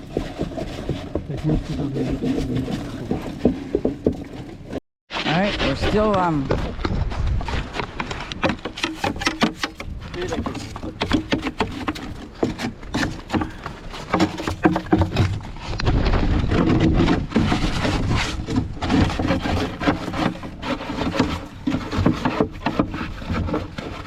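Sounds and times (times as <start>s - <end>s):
crunching and scraping knocks: 0.0s - 24.0s.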